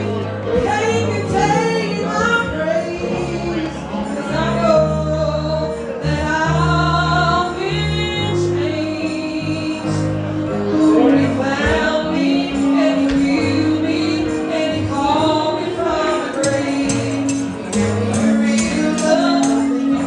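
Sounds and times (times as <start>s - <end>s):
gospel song with accompaniment: 0.0s - 20.0s.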